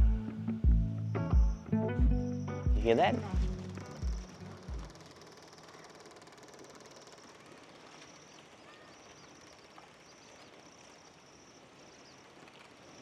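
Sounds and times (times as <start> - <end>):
faint bird chirps: 1.0 - 13.0
faint high insect trill: 1.0 - 13.0.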